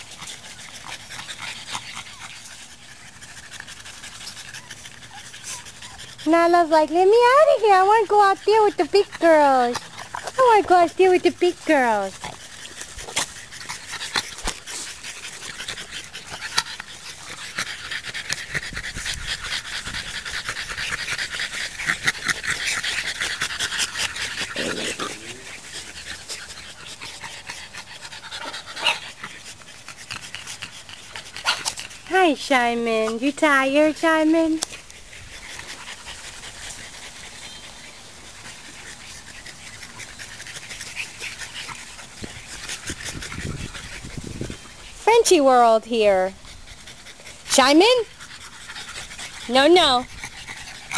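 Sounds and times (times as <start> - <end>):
puppy panting: 0.0 - 50.9.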